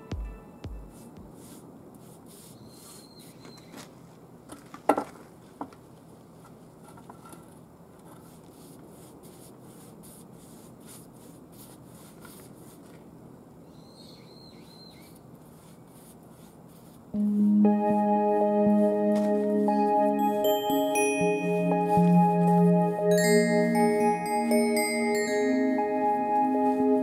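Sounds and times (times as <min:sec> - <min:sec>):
background hiss: 0:00.0 - 0:27.0.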